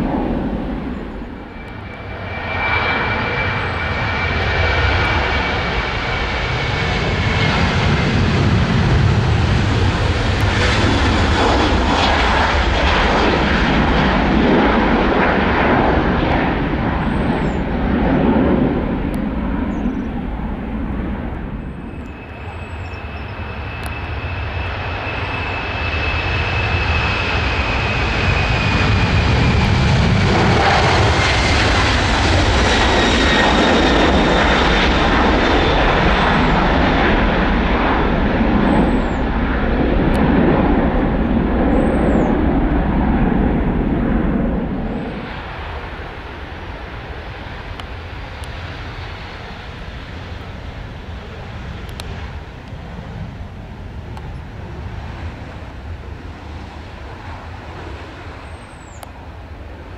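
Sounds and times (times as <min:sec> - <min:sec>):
high jet engine whine: 0:00.0 - 0:59.9
jet airliner taking off: 0:00.0 - 0:59.9.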